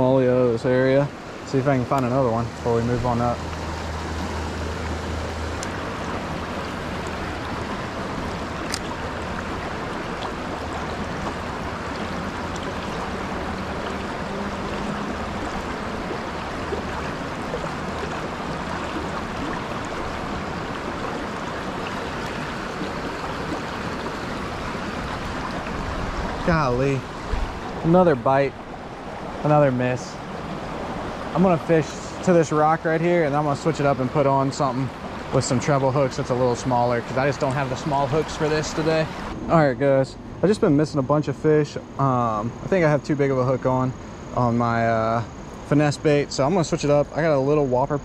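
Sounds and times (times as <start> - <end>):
creek water rushing over rocks: 0.0 - 39.4.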